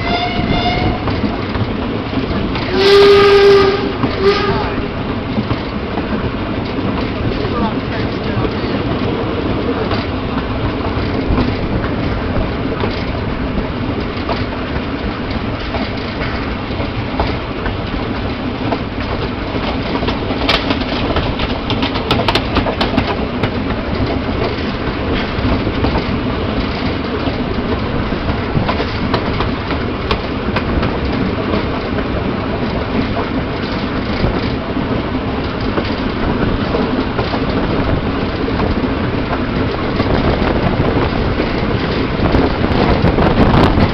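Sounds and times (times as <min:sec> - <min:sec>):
train wheels clattering over rail joints: 0:00.0 - 0:43.9.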